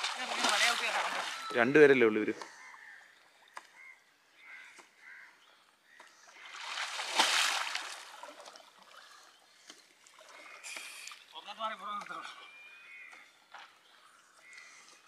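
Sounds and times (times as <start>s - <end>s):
water splashing and churning: 0.0s - 3.9s, 5.9s - 15.0s.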